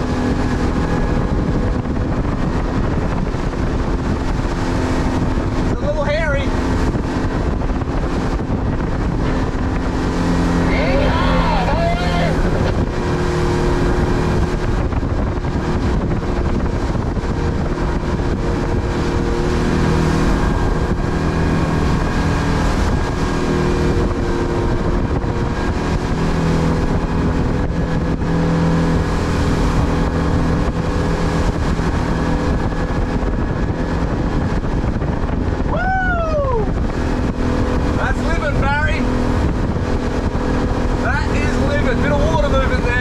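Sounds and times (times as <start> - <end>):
motorboat engine running: 0.0 - 43.0
wind and water rushing: 0.0 - 43.0.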